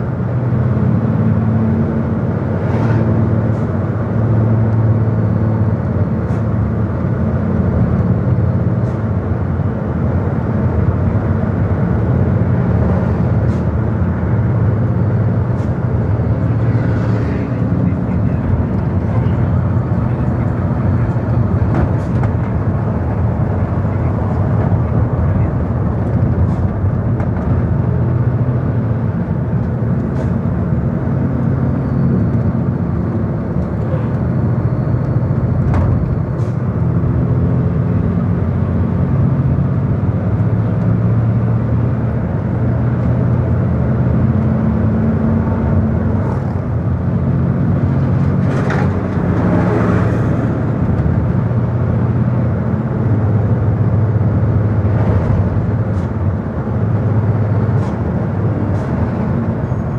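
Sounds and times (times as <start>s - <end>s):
low engine hum: 0.0s - 59.9s
tyre and road noise: 0.0s - 59.9s.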